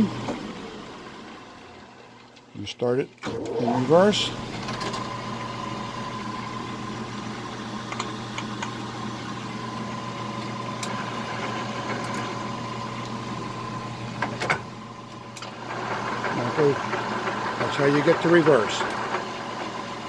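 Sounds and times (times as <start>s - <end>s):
lathe humming with high tone: 3.3s - 20.0s.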